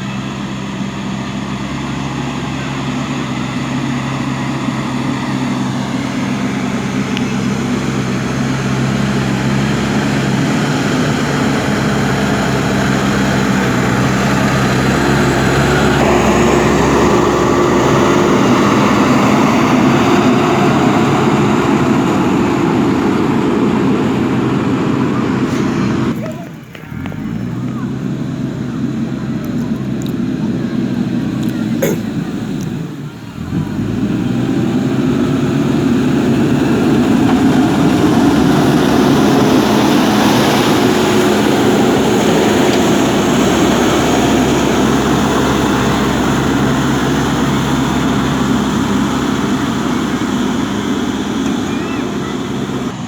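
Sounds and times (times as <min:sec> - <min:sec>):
diesel engine working under load: 0:00.0 - 0:53.0.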